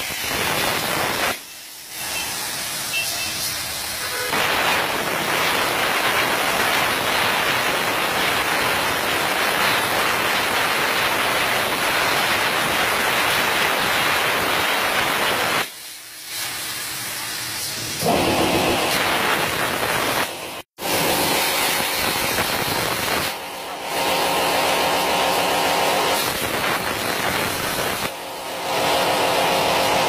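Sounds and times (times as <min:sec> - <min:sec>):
plasma cutter arc hissing: 0:00.0 - 0:30.0.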